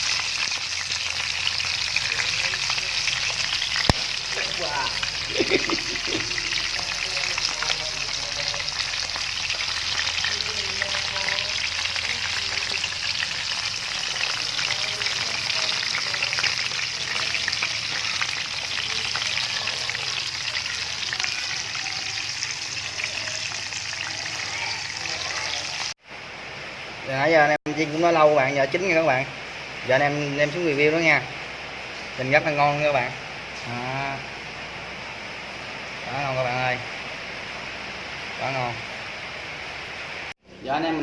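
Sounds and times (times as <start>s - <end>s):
chicken deep-frying in hot oil: 0.0s - 41.0s.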